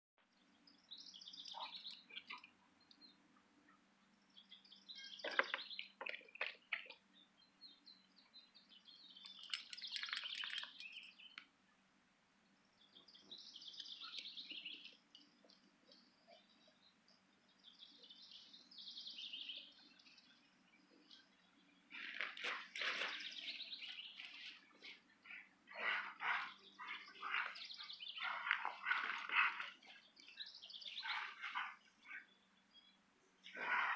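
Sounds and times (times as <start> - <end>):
songbirds chirping: 0.2 - 33.9.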